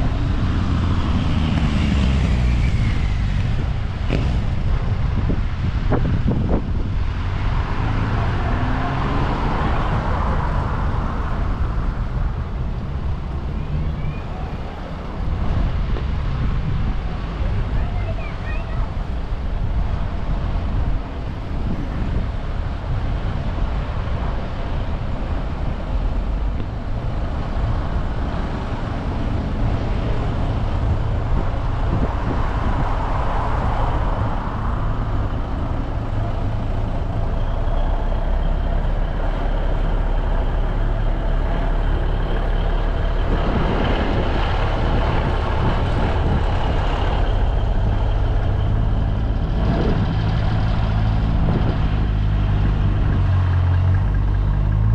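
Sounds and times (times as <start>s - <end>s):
heavy truck engines running: 0.0s - 54.9s.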